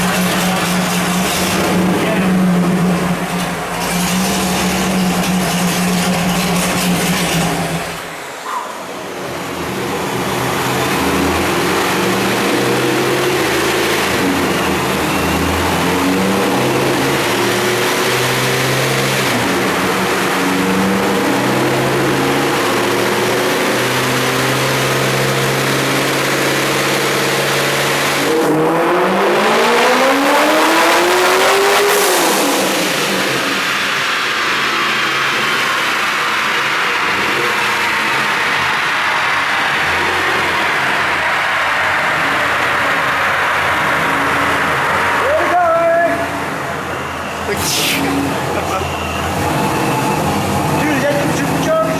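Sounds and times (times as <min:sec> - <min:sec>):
car engine on dynamometer: 0:00.0 - 0:51.9.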